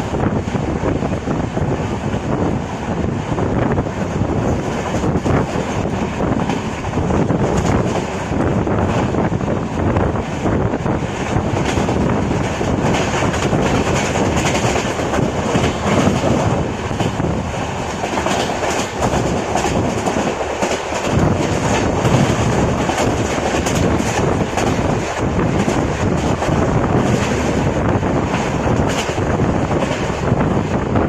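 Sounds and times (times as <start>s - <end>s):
train rumble: 0.0s - 31.0s
wheels clickety-clack on rails: 0.0s - 31.0s.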